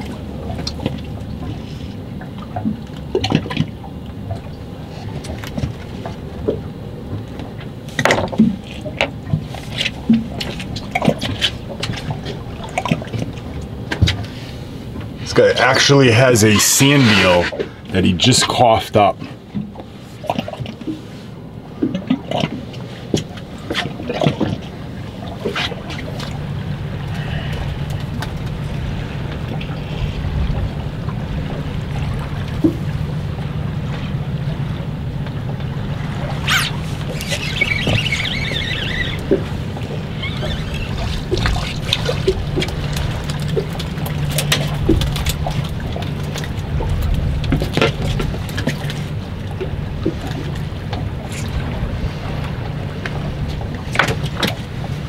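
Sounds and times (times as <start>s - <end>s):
boat engine hum: 0.0s - 55.0s
water slapping against hull: 0.0s - 55.0s.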